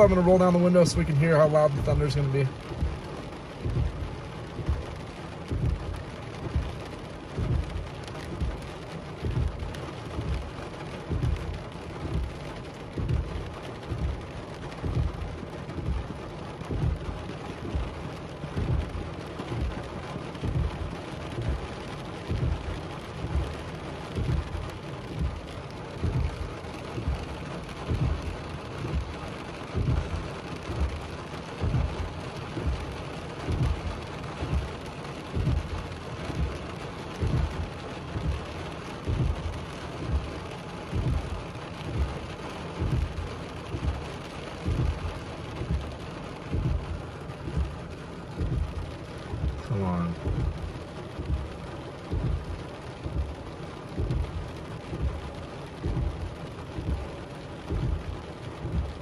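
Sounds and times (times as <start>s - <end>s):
heavy rain on car roof: 0.0s - 59.0s
thuds of big raindrops: 0.0s - 59.0s.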